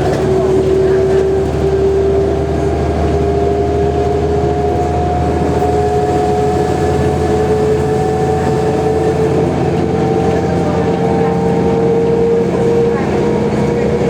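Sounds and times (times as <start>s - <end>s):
bus diesel engine rumble: 0.0s - 14.0s
drivetrain whine rising: 0.4s - 14.0s.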